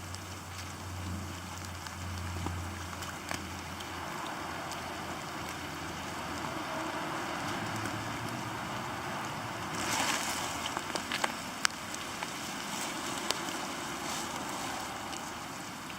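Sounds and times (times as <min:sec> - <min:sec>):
drips ticking: 0:00.0 - 0:15.9
low steady hum: 0:00.0 - 0:15.9
rain hiss: 0:00.0 - 0:15.9.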